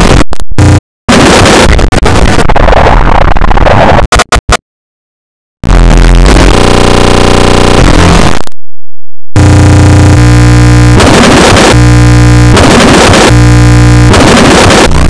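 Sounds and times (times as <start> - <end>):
harsh distorted buzzing drone: 0.0 - 4.6, 5.6 - 8.5, 9.4 - 15.0
stepped buzzing tone: 0.0 - 4.6, 5.6 - 8.5, 9.4 - 15.0.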